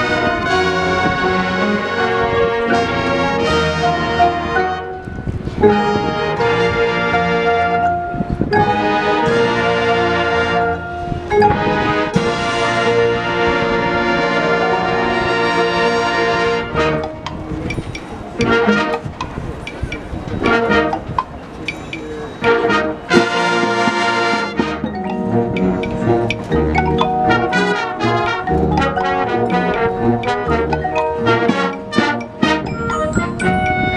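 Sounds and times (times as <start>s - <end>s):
low bass notes: 0.0s - 21.8s, 22.4s - 33.9s
brass band playing swing: 0.0s - 33.9s.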